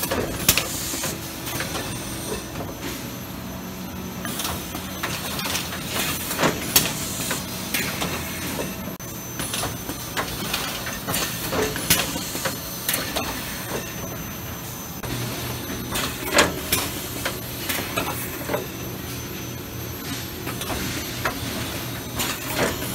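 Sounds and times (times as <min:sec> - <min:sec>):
machine clanks and clicks: 0:00.0 - 0:03.0, 0:04.2 - 0:14.2, 0:15.8 - 0:19.4, 0:20.0 - 0:22.9
machinery humming: 0:00.0 - 0:22.9.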